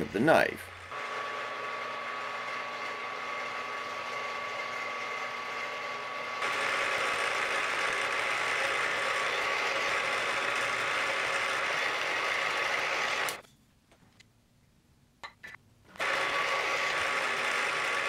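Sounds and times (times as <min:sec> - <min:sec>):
drill bit cutting wood: 0:00.0 - 0:13.4, 0:16.0 - 0:18.0
milling spindle whine: 0:00.0 - 0:13.4, 0:16.0 - 0:18.0.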